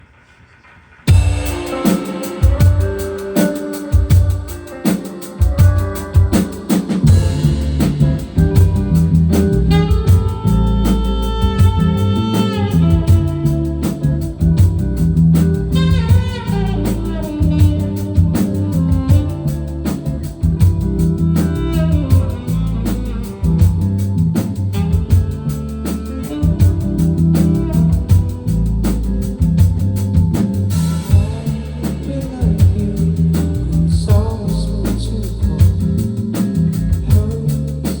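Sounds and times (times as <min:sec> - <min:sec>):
drum kit beat: 0:00.8 - 0:38.0
guitar: 0:01.0 - 0:38.0
bass: 0:01.1 - 0:38.0.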